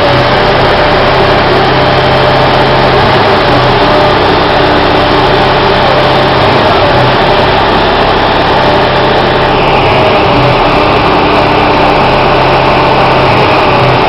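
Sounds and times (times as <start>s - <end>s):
concrete pump engine running: 0.0s - 14.0s.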